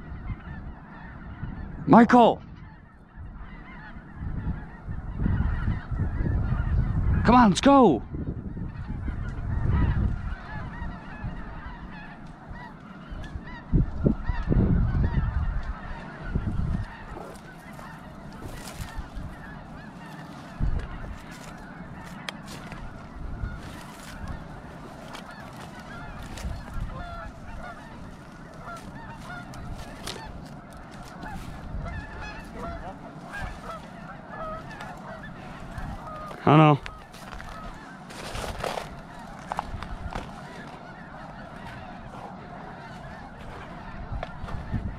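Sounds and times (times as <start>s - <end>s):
flock of geese honking: 0.0s - 44.9s.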